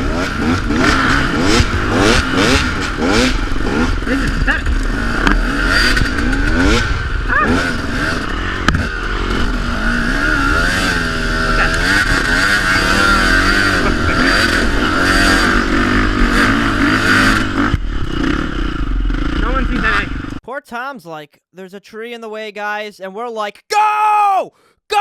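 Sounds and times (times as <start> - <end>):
dirt bike engines revving: 0.0 - 20.4.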